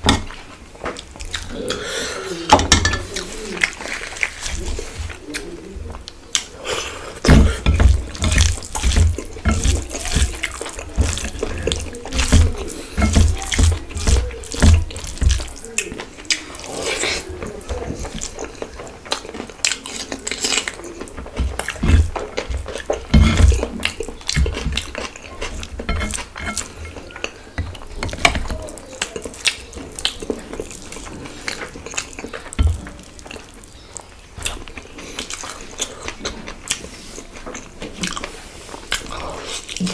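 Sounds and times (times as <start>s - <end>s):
wet chewing and lip smacking: 0.9s - 1.6s, 7.8s - 39.9s
fingers squishing rice on plate: 3.0s - 39.9s.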